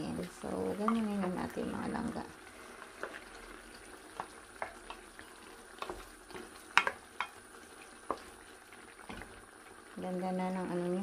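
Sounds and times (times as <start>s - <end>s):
braising sauce simmering in a pot: 0.0s - 11.0s
low bubbling hiss with sharp pops: 0.0s - 11.0s.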